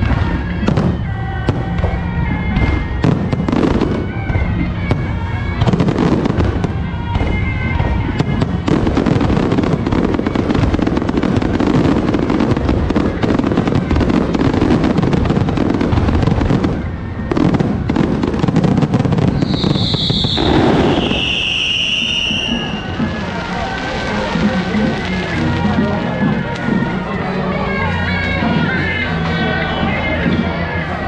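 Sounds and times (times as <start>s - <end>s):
firecrackers crackling: 0.0s - 31.0s.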